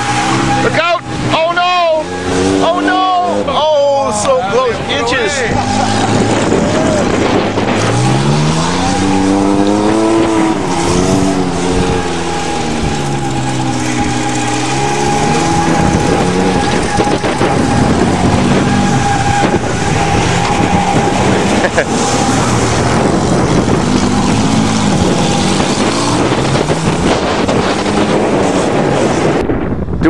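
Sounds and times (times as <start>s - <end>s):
vehicle engine revving: 0.0s - 29.6s
high whine: 0.0s - 29.9s.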